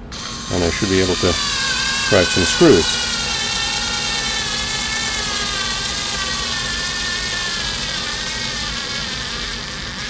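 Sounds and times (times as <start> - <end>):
cordless screwdriver motor whining: 0.0 - 10.0.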